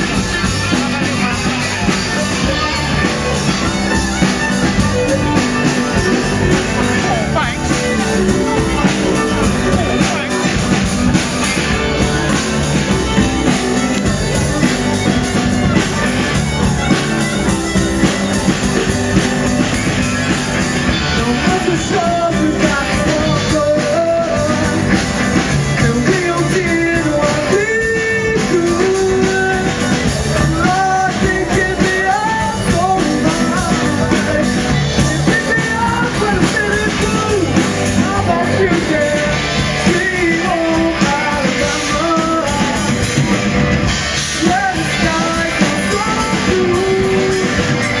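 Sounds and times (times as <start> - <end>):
harmonica melody: 0.0 - 48.0
live rock band playing: 0.0 - 48.0.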